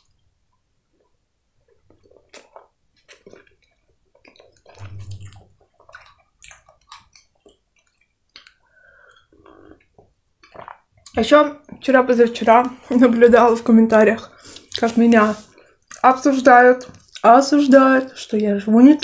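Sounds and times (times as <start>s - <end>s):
wet chewing and smacking: 0.0s - 11.9s, 15.5s - 19.0s.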